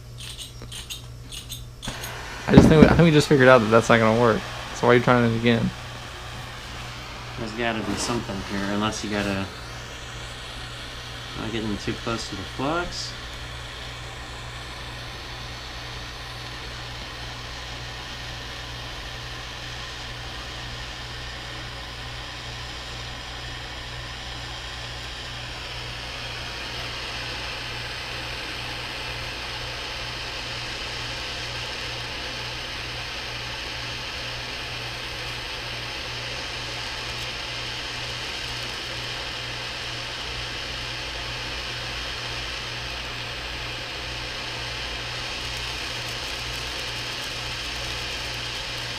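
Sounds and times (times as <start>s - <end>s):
gas torch hissing and roaring: 1.7s - 48.9s.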